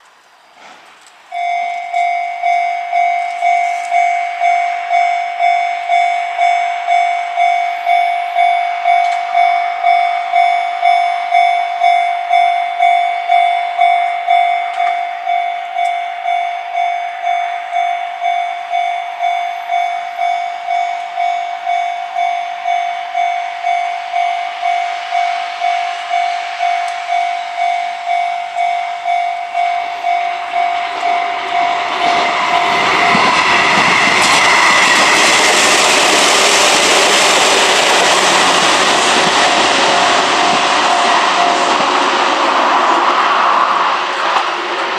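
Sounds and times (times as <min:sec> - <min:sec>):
level crossing warning bell ringing: 0:01.3 - 0:43.0.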